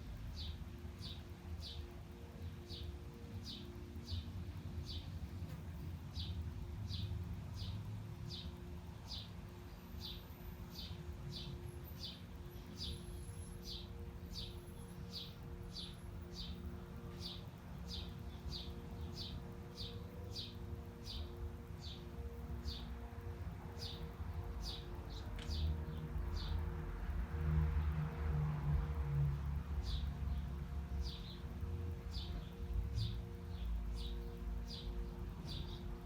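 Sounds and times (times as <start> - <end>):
city traffic rumble: 0.0 - 36.0
bird chirping: 0.2 - 23.0, 29.8 - 36.0.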